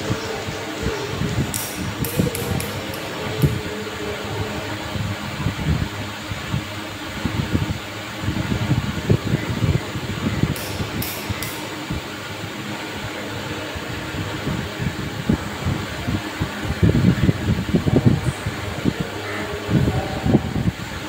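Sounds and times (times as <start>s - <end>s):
whooshing air noise: 0.0s - 21.0s.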